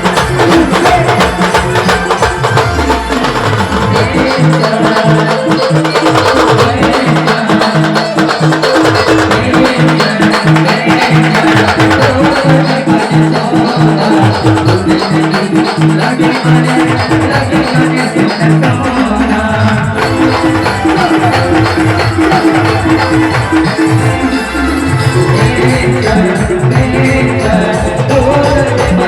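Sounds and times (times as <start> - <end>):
loud music with driving beat: 0.0 - 29.0.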